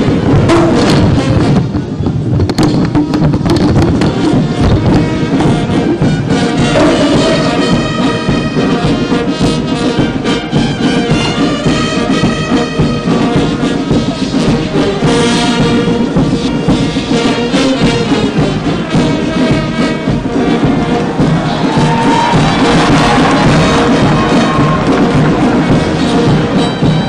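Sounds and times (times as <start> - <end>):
brass band music: 0.0 - 27.0.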